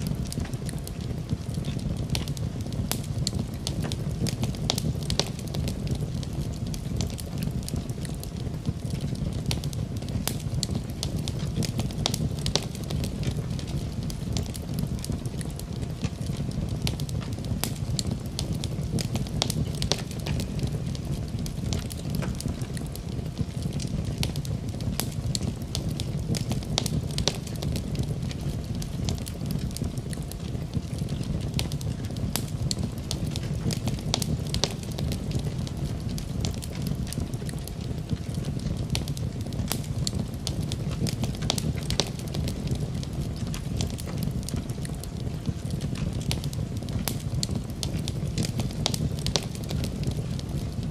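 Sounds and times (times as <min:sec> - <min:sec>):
fireplace fire rushing: 0:00.0 - 0:50.9
logs crackling and popping: 0:00.0 - 0:50.9.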